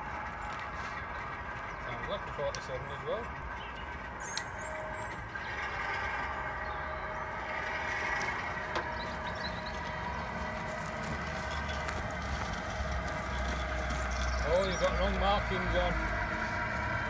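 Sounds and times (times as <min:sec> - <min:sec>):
model locomotive humming: 0:00.0 - 0:17.0.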